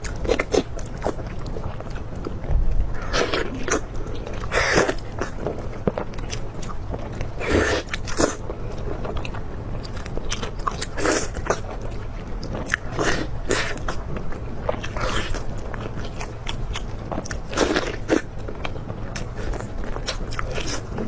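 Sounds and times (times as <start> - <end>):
person chewing and crunching: 0.0 - 21.0.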